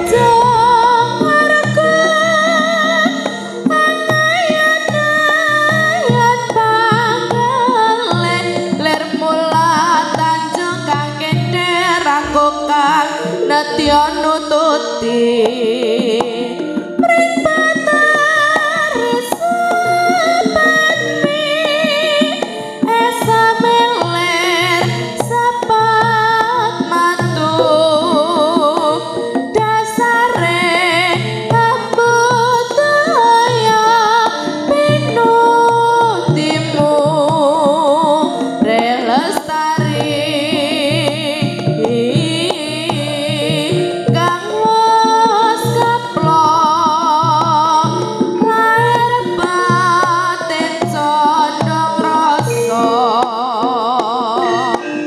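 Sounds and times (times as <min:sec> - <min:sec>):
hand drum beat: 0:00.0 - 0:55.0
vibrato melody: 0:00.0 - 0:55.0.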